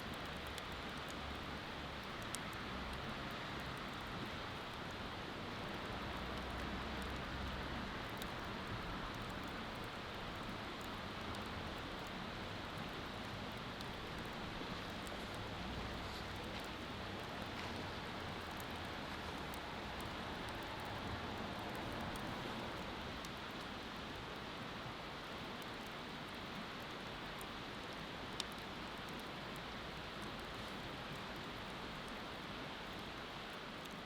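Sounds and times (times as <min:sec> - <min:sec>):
bonfire crackling: 0:00.0 - 0:34.0.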